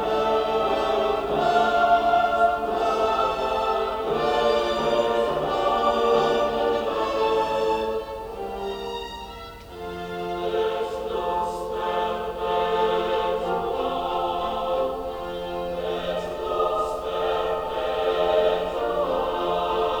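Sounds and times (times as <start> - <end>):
choral music over speaker: 0.0 - 20.0.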